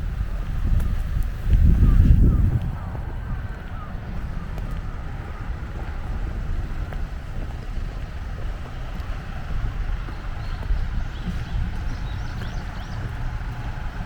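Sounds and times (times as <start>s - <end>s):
faint outdoor background noise: 0.0s - 14.0s
wind buffeting microphone: 0.0s - 14.0s.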